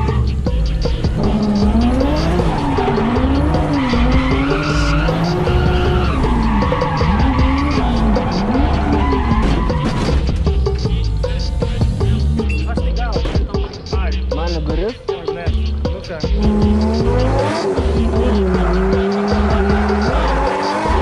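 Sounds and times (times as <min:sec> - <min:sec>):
car engine revving: 0:00.0 - 0:13.0, 0:15.6 - 0:21.0
tyres skidding: 0:00.0 - 0:14.1, 0:15.2 - 0:21.0
music with steady beat: 0:00.0 - 0:21.0.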